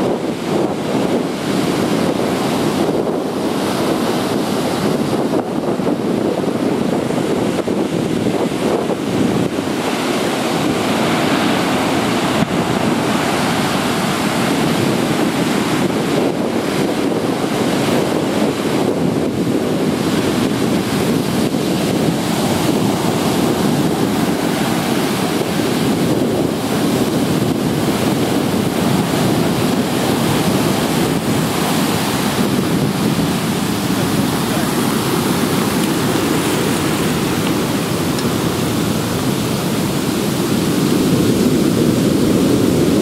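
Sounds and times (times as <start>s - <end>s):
storm surf breaking: 0.0s - 43.0s.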